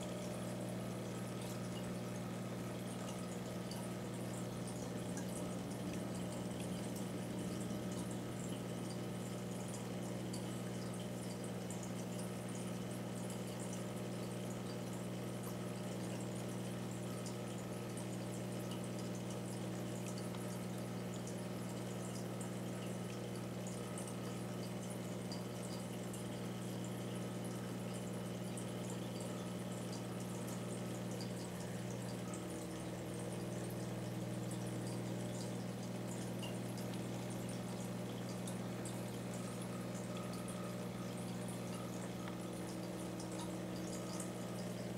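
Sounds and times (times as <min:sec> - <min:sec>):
aquarium pump humming: 0:00.0 - 0:44.9
water trickling and bubbling: 0:00.0 - 0:44.9.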